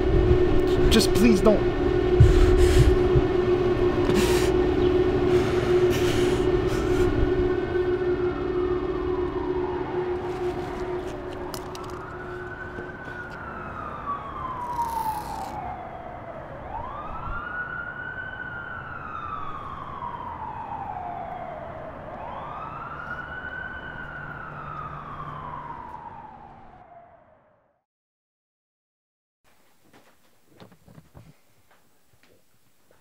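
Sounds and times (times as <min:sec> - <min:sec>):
emergency siren wailing: 0:00.0 - 0:27.8.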